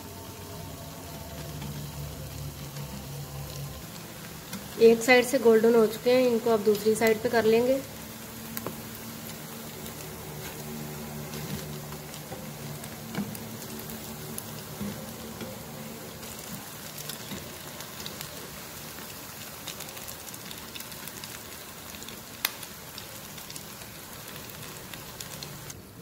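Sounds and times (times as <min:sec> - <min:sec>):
fries sizzling in hot oil: 0:00.0 - 0:26.0.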